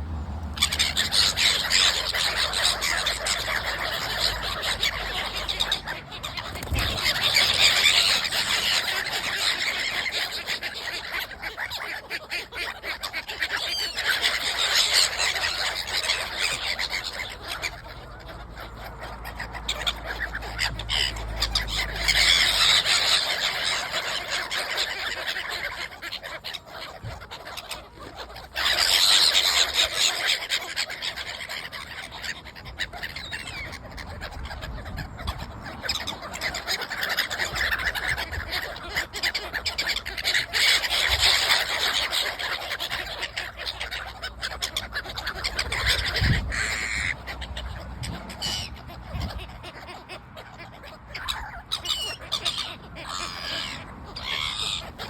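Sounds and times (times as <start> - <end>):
gulls squawking: 0.0 - 55.0.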